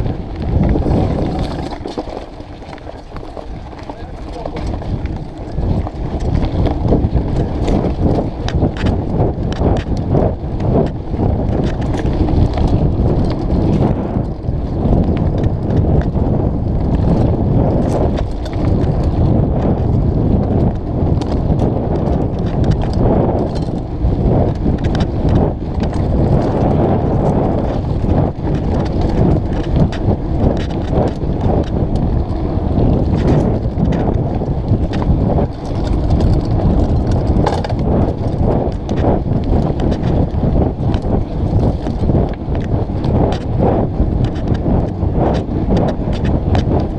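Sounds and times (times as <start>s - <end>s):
bike knocks and rattles: 0.0s - 46.9s
bike tyres rumbling on dirt: 0.0s - 46.9s.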